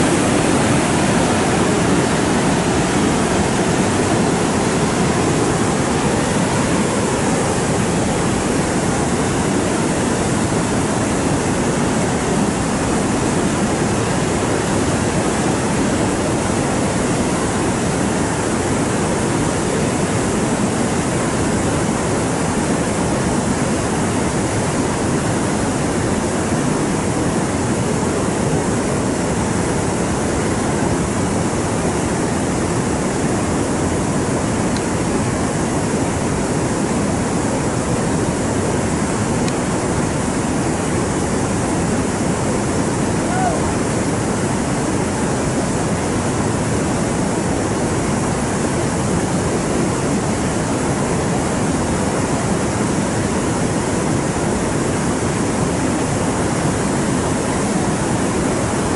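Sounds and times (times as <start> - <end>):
water rushing: 0.0 - 58.9.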